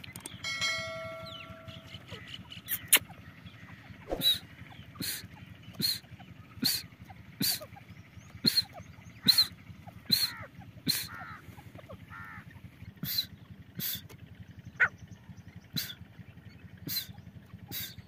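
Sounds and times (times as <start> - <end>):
francolin harsh calls: 1.2 - 18.0.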